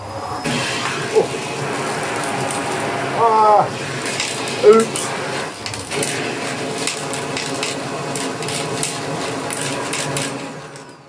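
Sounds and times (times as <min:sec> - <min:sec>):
vacuum cleaner motor: 0:00.0 - 0:11.0.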